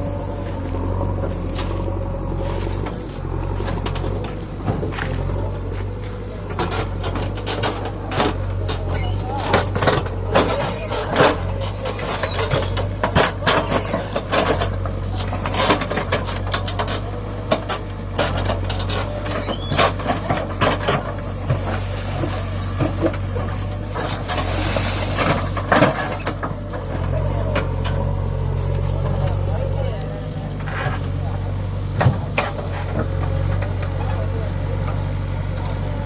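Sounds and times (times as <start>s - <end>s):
diesel engine running: 0.0s - 36.0s
metal clanks and knocks: 1.2s - 29.5s, 30.5s - 34.4s.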